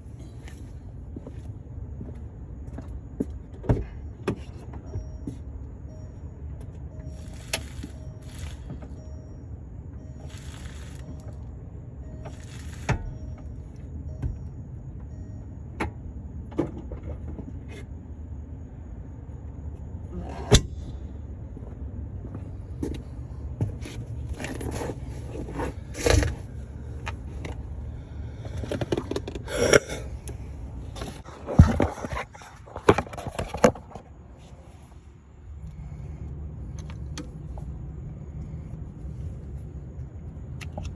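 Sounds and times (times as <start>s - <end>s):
steady low rumble: 0.0s - 40.9s.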